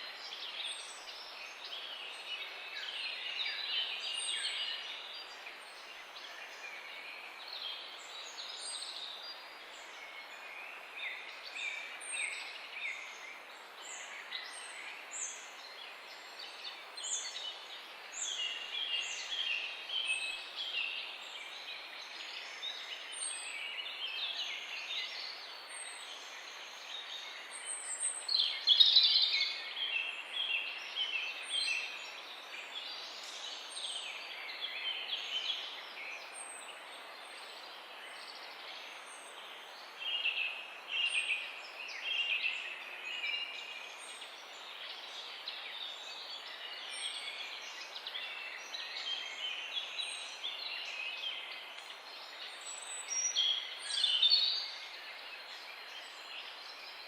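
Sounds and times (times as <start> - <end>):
background hiss: 0.0 - 57.0
songbirds singing: 0.0 - 57.0.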